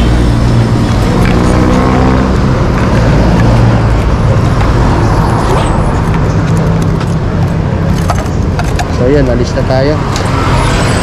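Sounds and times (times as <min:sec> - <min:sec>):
passing vehicle engines: 0:00.0 - 0:11.0.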